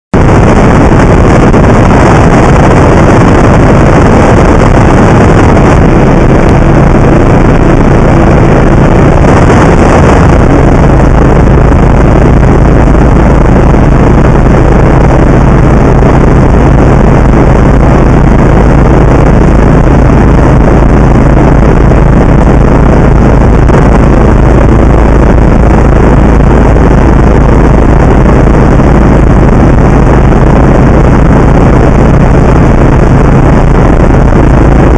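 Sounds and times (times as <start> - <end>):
wind rush: 0.1 - 34.9
light aircraft engine drone: 0.2 - 34.9.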